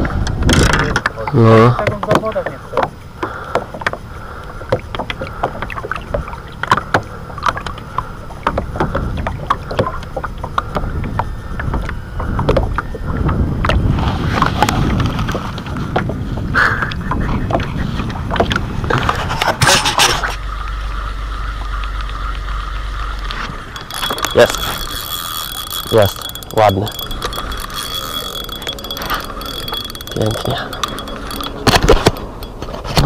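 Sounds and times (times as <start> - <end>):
water lapping against boat: 0.0 - 33.0.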